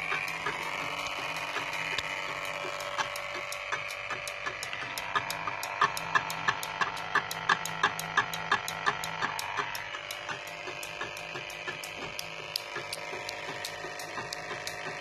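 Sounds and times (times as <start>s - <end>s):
mechanical device ticking: 0.0s - 15.0s.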